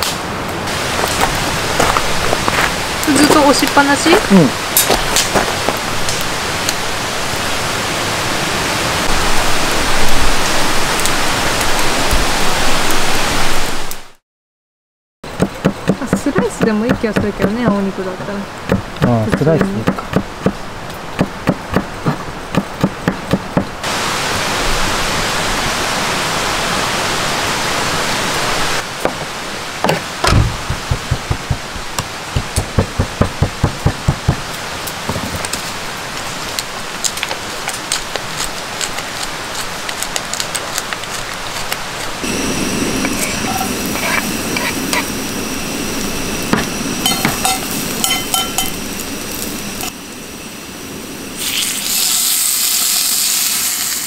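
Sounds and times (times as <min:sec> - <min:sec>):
steady sizzling hiss: 0:00.0 - 0:14.1, 0:16.0 - 0:54.0.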